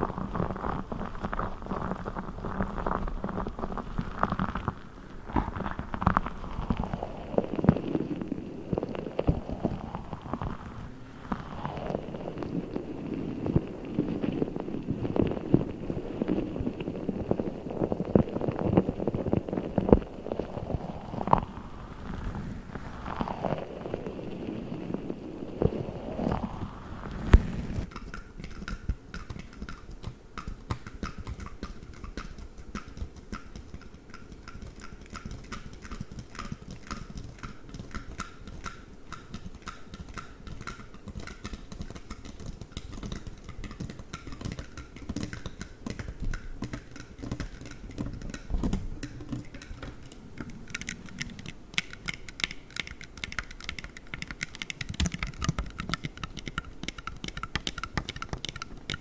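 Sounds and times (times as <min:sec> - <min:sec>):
play foam crackling: 0:00.0 - 0:59.0.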